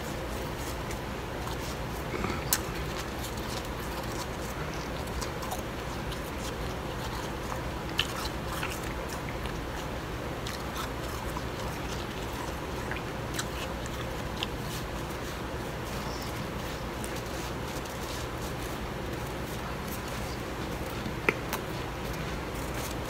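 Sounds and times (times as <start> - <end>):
ice crunching being chewed: 0.1 - 23.0.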